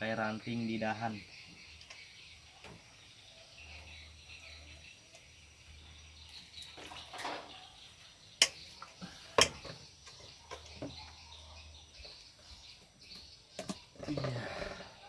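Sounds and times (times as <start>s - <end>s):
insects and birds chirping: 0.0s - 15.0s.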